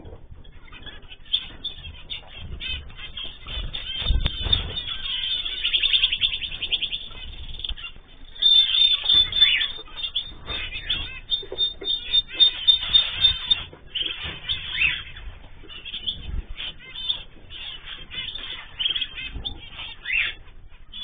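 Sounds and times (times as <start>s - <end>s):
cage birds chirping and trilling: 0.0s - 21.0s.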